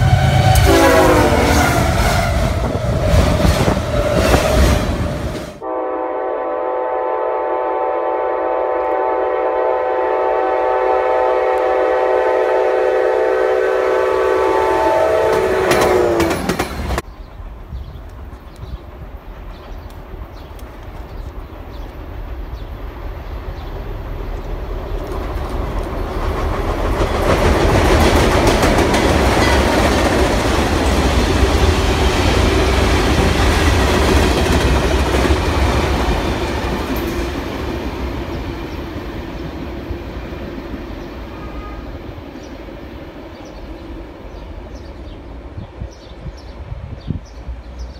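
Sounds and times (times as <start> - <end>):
train rolling past: 0.0 - 47.9.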